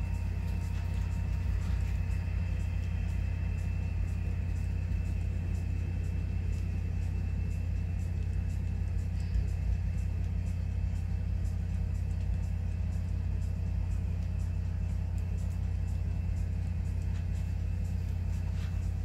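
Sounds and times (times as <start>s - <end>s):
diesel locomotive rumble: 0.0s - 19.0s
faint high whine: 0.0s - 19.0s.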